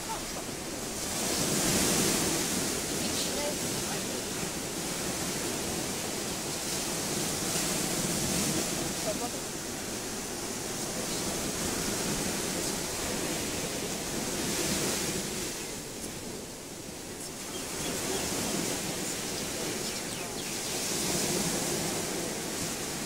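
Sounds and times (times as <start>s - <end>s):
surf washing on a beach: 0.0s - 23.0s.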